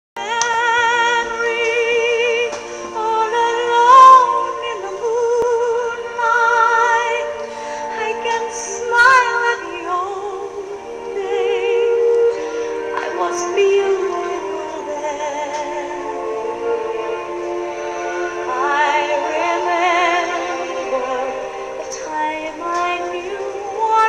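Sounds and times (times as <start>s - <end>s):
musical backing track: 0.2s - 24.0s
woman singing with vibrato: 0.2s - 24.0s.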